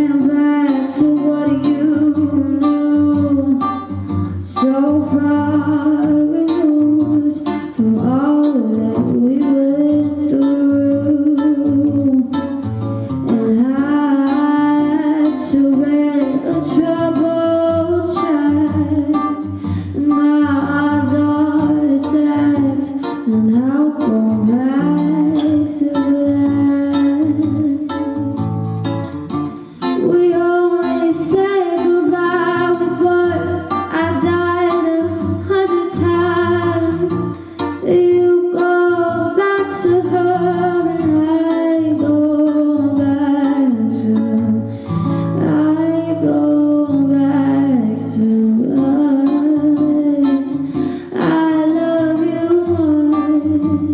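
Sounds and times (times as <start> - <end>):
woman singing slow song: 0.0 - 28.2, 29.8 - 53.9
plucked guitar: 0.0 - 53.9.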